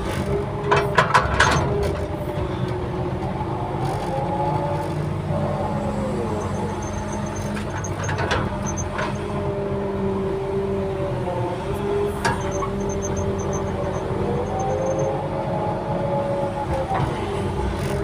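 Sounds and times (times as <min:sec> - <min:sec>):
engine whine: 0:00.0 - 0:18.0
heavy machine engine running: 0:00.0 - 0:18.0.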